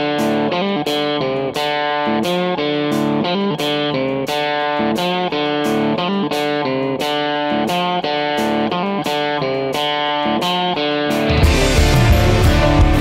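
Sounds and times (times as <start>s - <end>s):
picked guitar melody: 0.0s - 13.0s.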